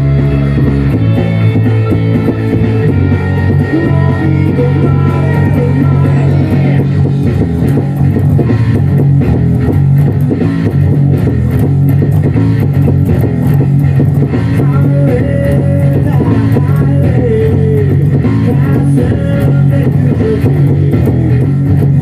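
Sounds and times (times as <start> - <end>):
drums: 0.0 - 22.0
electric bass line: 0.0 - 22.0
electric guitars: 0.0 - 22.0.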